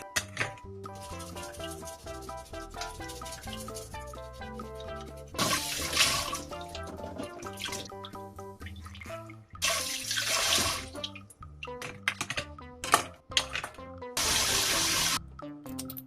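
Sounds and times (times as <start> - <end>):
background music melody: 0.0 - 16.0.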